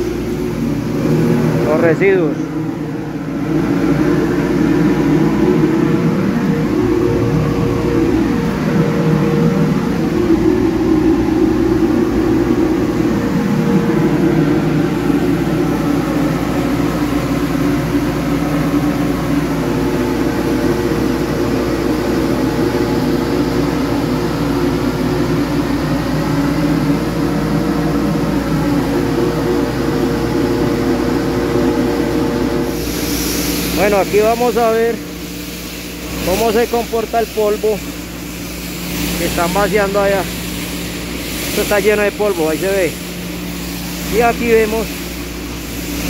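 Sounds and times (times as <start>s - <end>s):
dust extractor fan drone: 0.0s - 46.0s.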